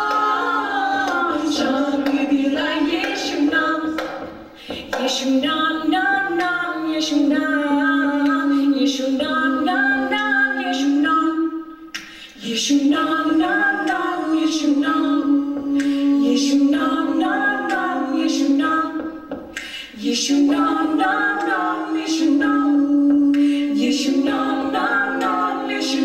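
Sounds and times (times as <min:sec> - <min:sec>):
mixed voices singing a cappella: 0:00.0 - 0:26.0.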